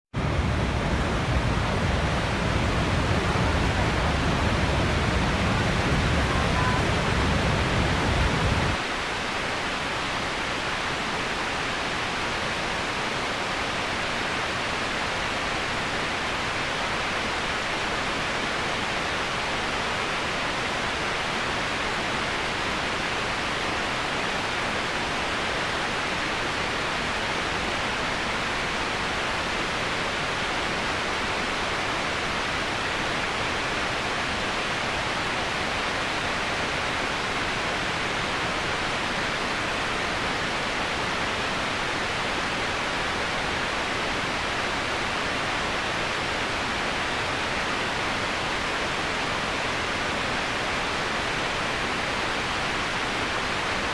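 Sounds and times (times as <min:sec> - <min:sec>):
waterfall roaring: 0:00.2 - 0:53.9.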